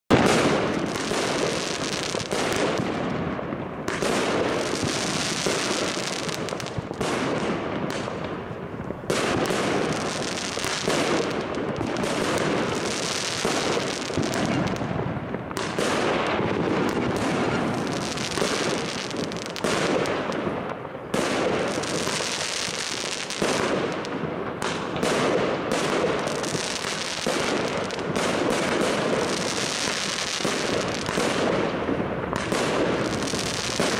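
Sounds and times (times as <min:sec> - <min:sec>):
fireworks bangs and crackles: 0:00.1 - 0:33.9.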